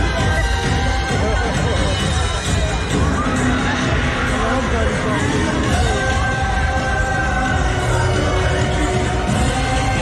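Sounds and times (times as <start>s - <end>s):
parade music over loudspeakers: 0.0s - 10.0s.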